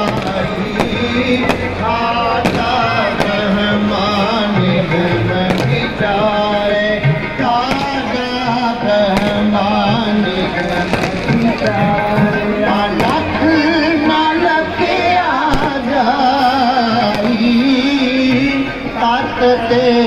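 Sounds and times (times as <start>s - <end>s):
person singing devotional song: 0.0s - 20.0s
steady drone: 0.0s - 20.0s
tabla strokes: 0.0s - 20.0s.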